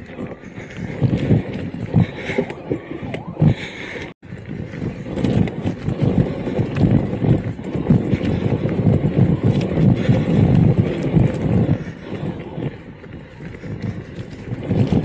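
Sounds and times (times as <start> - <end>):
bike rattling over rough ground: 0.0 - 15.0.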